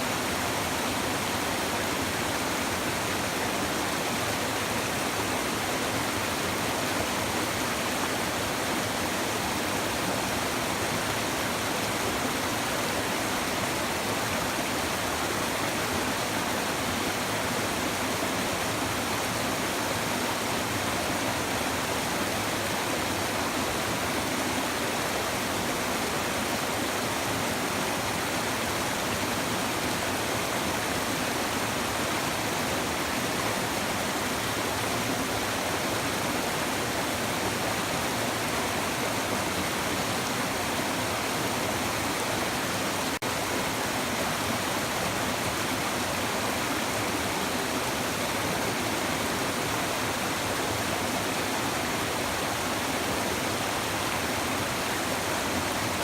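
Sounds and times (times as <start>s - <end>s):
stream babbling over stones: 0.0s - 56.0s.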